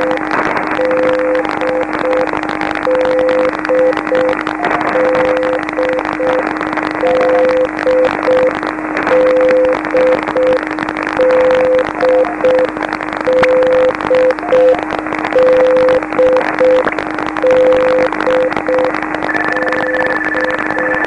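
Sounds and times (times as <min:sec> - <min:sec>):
faint higher keyed signal: 0:00.0 - 0:08.5, 0:09.1 - 0:10.6, 0:11.2 - 0:21.0
hissing radio band noise: 0:00.0 - 0:21.0
morse code beacon tones: 0:00.0 - 0:21.0
steady lower tone: 0:00.0 - 0:21.0.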